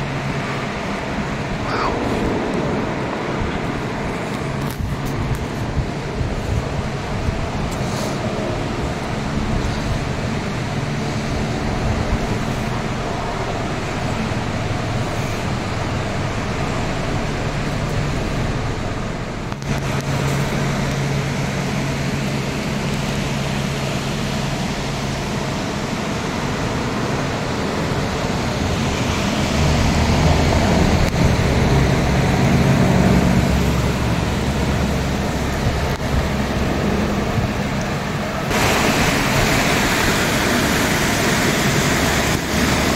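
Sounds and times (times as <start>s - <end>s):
river rushing: 0.0s - 42.9s
vehicle engine hum: 0.0s - 42.9s.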